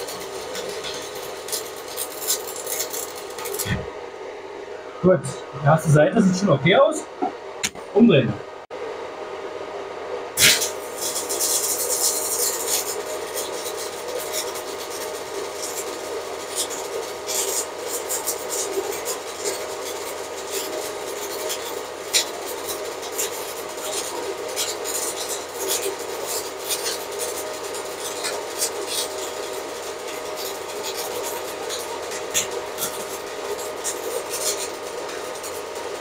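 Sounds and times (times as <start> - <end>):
welding arc striking: 0.0 - 3.9, 10.4 - 36.0
welding arc crackling: 0.0 - 4.2, 10.4 - 36.0.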